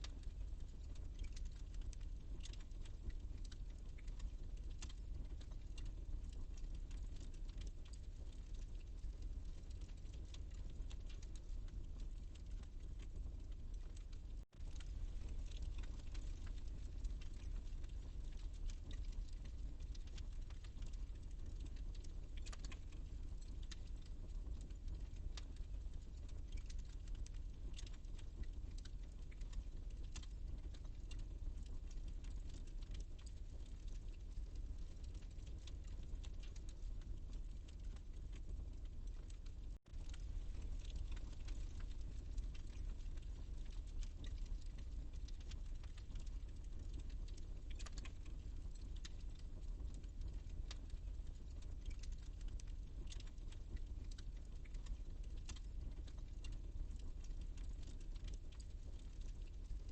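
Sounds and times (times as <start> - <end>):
wood fire crackling: 0.0 - 59.8.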